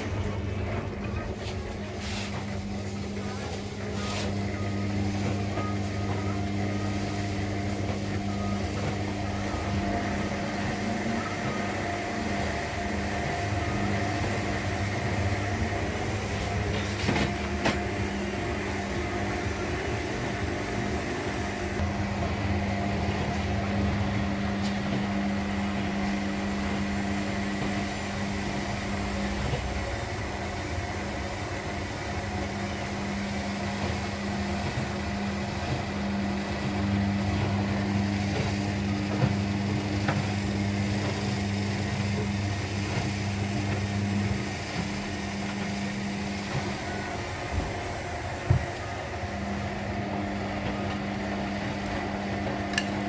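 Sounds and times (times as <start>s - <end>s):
deeper hum: 0.0s - 53.0s
washing machines running: 0.0s - 53.0s.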